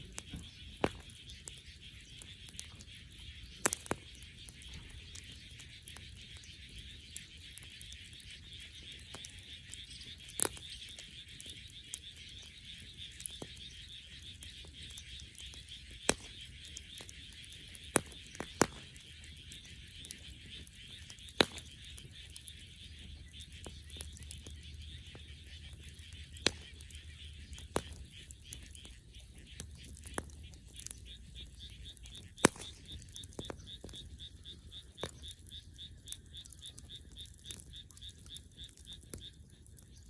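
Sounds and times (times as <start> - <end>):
bonfire crackling pops: 0.0 - 40.0
fire low rumble: 0.0 - 40.0.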